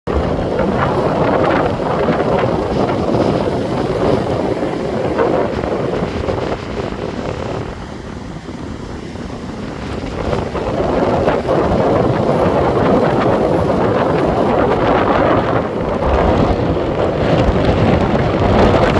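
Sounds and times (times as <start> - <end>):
breaking surf: 0.1 - 18.9
wind buffeting microphone: 0.1 - 18.9.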